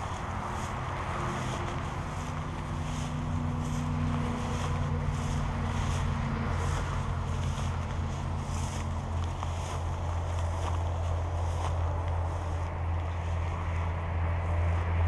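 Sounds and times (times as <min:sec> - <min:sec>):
footsteps through dry grass: 0:00.0 - 0:15.0
steady low hum: 0:00.0 - 0:15.0.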